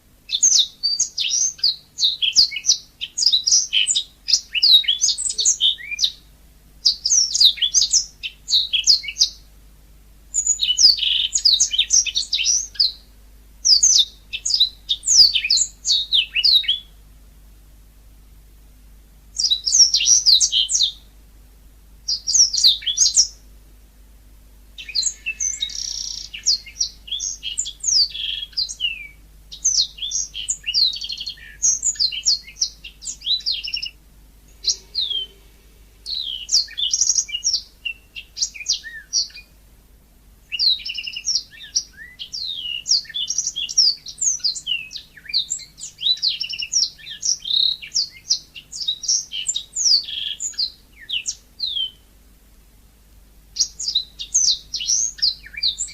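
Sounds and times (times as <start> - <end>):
canary twittering song: 0.3 - 9.5, 10.3 - 17.0, 19.4 - 21.1, 22.1 - 23.4, 24.8 - 39.5, 40.5 - 52.1, 53.6 - 55.9.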